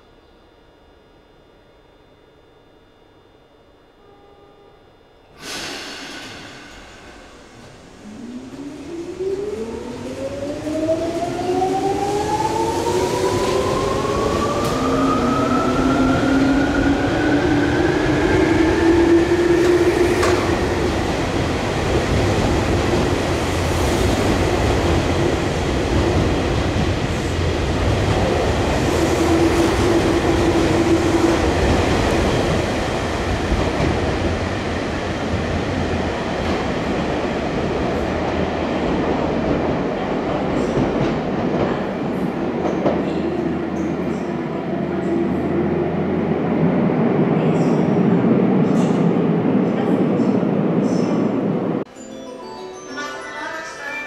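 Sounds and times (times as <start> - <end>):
train running noise: 5.4 - 51.8.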